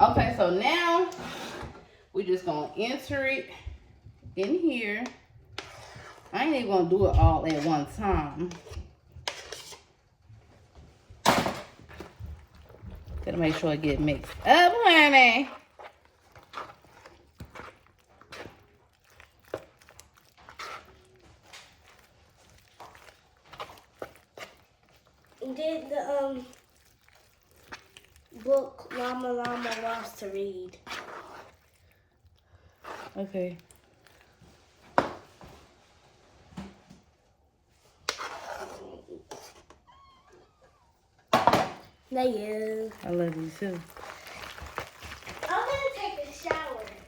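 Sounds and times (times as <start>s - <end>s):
utensil stirring sauce in a pan: 0.0s - 39.9s, 41.9s - 47.0s
rustling or scraping: 5.5s - 32.0s, 32.7s - 40.8s, 42.1s - 47.0s.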